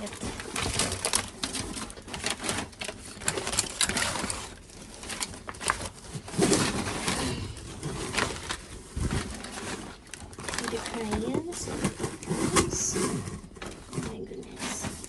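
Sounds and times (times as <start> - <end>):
hands rummaging through a bag: 0.0 - 15.0.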